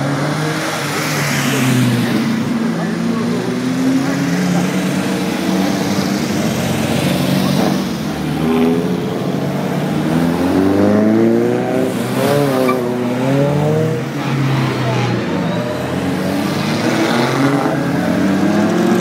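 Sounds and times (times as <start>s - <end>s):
engine revving: 3.5s - 19.0s.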